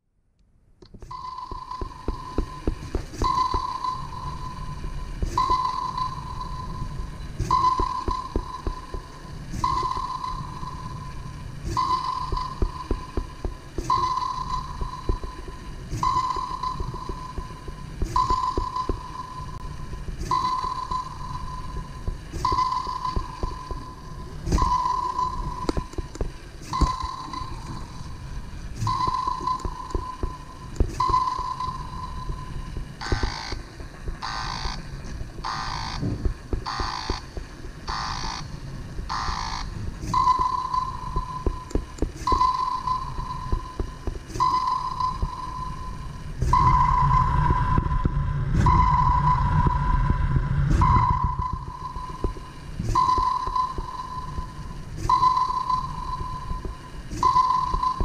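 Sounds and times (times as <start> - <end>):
robot treads and motors clattering: 0.8 - 49.8, 50.7 - 58.0
repeating pinging tone: 1.0 - 58.0.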